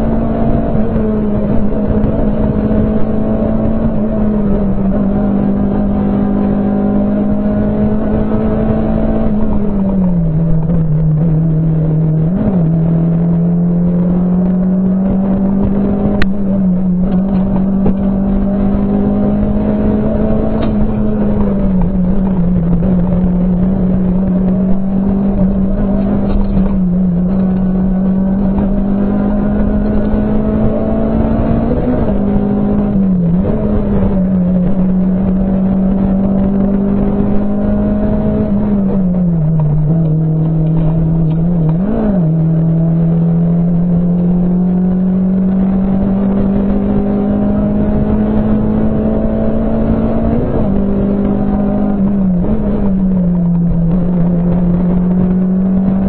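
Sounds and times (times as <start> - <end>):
car engine revving: 0.0 - 56.0
road and tyre noise: 0.0 - 56.0.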